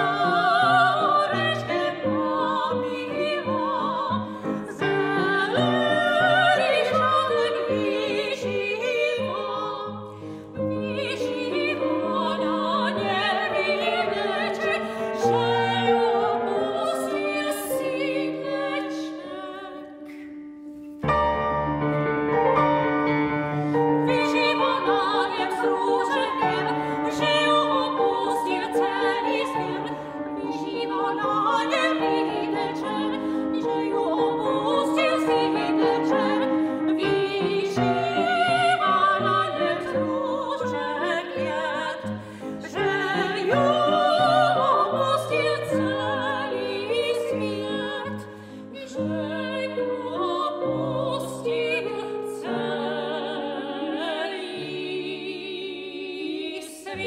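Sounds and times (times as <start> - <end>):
two sopranos singing: 0.0 - 20.3, 22.6 - 57.0
grand piano: 0.0 - 57.0.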